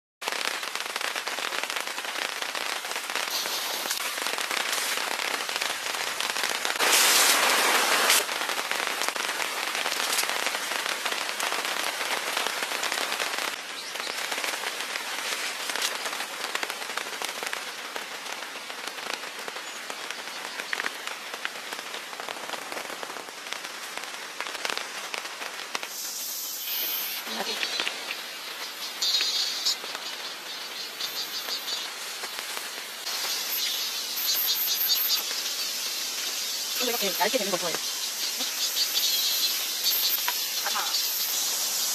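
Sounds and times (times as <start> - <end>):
steady rain falling: 0.2 - 41.9.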